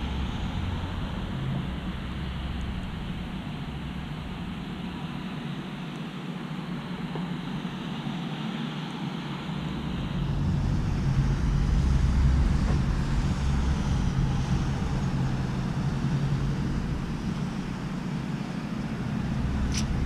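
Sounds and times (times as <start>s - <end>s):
car exhaust drone: 0.0s - 20.0s
road noise: 0.0s - 20.0s.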